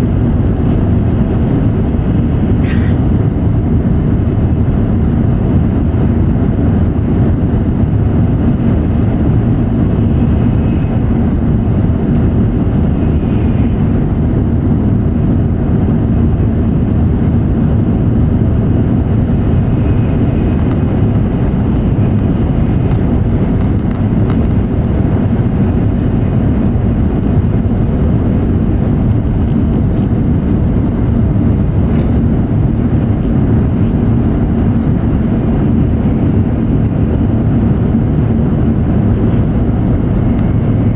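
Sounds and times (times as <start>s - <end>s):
train running rumble: 0.0s - 40.9s.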